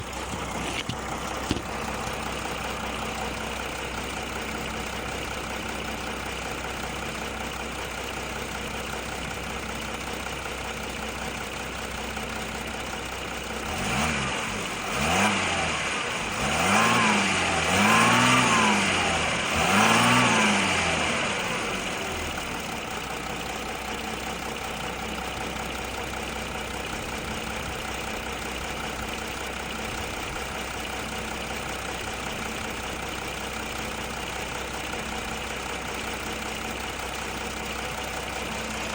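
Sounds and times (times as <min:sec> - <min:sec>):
diesel engine idling and revving: 0:00.0 - 0:38.9
engine ticking: 0:00.0 - 0:38.9.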